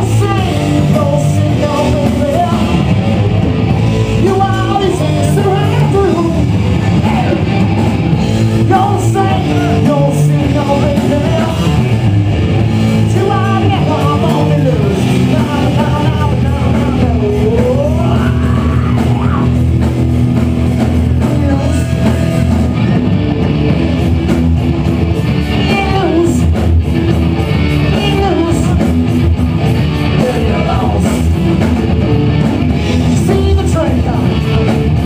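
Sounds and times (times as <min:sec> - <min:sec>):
live rock band playing: 0:00.0 - 0:35.0
pitch-bending lead guitar: 0:00.0 - 0:35.0.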